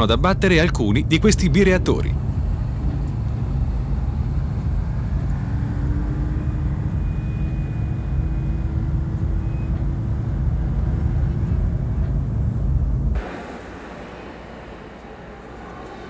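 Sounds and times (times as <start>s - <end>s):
faint rising whine: 0.0s - 16.0s
low engine rumble: 0.0s - 16.0s.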